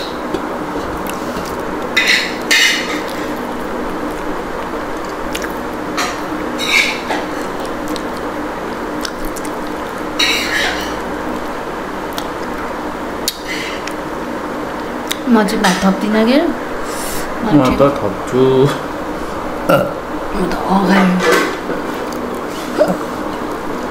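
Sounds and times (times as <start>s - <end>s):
close-up eating sounds: 0.0s - 14.1s, 16.8s - 23.9s
background hiss and hum: 0.0s - 23.9s.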